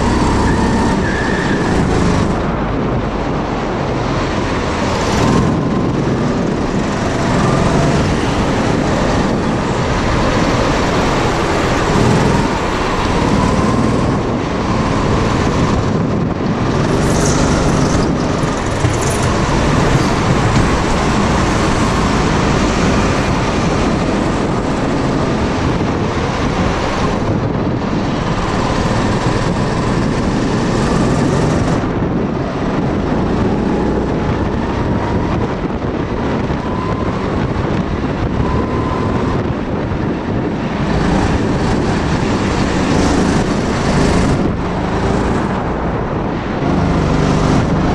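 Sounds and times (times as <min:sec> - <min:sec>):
go-kart motor and tyres droning: 0:00.0 - 0:47.9.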